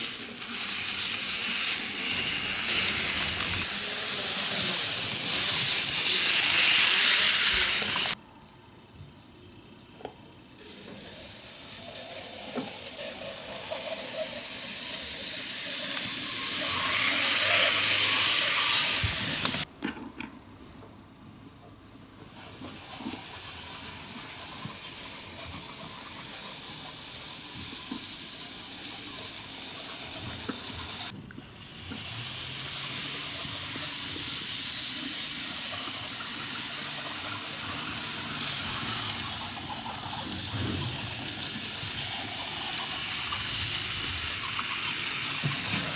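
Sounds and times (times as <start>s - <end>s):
model train whirring on rails: 0.0s - 8.2s, 9.6s - 19.7s, 22.2s - 45.9s.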